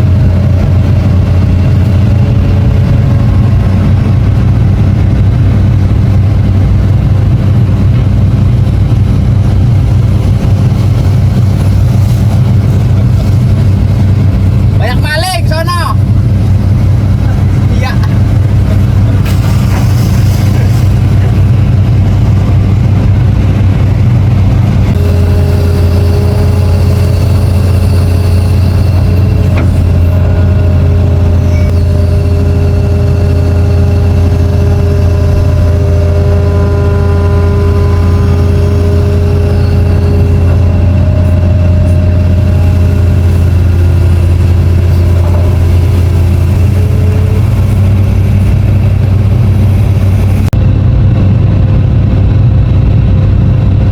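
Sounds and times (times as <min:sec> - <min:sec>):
diesel engine low drone: 0:00.0 - 0:53.9
steady multi-tone whine: 0:00.0 - 0:53.9.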